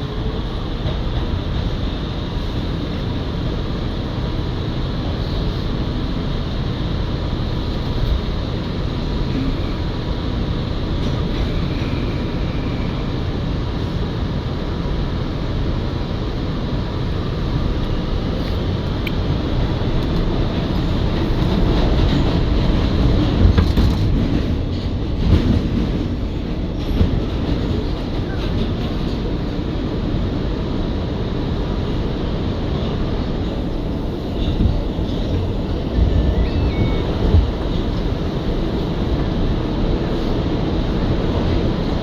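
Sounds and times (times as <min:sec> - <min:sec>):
subway car wheels rumbling on track: 0:00.0 - 0:42.0.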